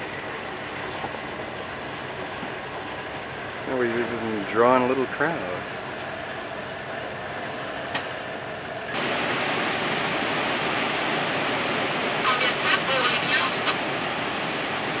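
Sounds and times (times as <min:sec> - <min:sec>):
water rushing through lock gate: 0:00.0 - 0:15.0.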